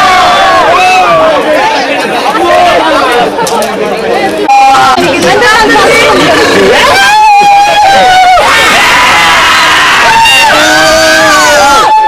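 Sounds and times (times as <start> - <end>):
group shouting and cheering: 0.0 - 3.3, 4.5 - 12.0.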